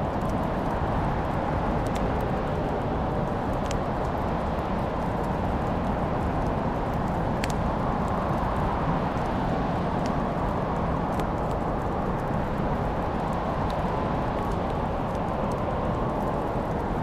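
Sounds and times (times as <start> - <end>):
low rumble of fire flames: 0.0 - 17.0
wood fire crackling and popping: 0.0 - 17.0.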